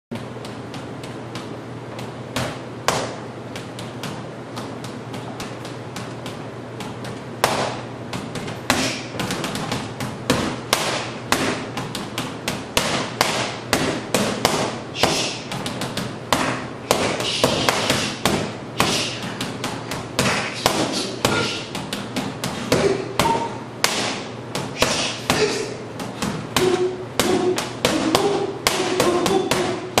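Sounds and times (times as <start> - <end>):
gloved punches on rubber dummy: 2.4 - 30.0.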